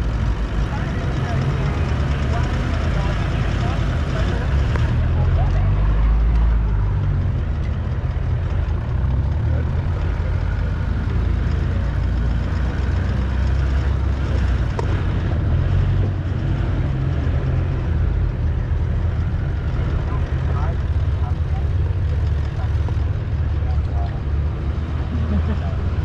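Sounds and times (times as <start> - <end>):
off-road vehicle engine at low speed: 0.0 - 26.0
road and body noise: 0.0 - 26.0.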